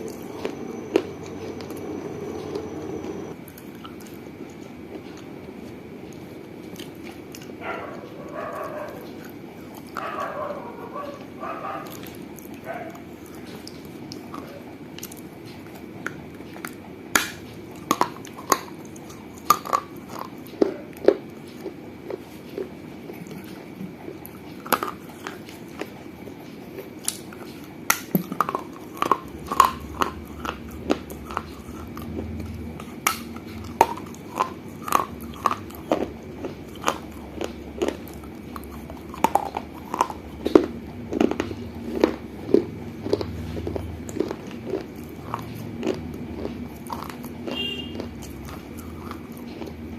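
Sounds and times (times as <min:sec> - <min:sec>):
clay pieces being chewed: 0:00.0 - 0:49.9.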